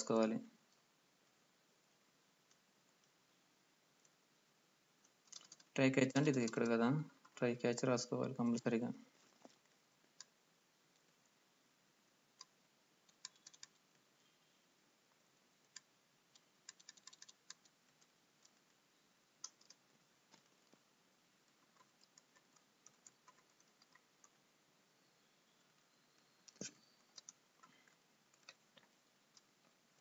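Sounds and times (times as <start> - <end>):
faint keyboard typing: 2.4 - 3.3, 3.9 - 4.3, 4.9 - 7.8, 8.4 - 11.4, 12.2 - 24.6, 25.4 - 30.0.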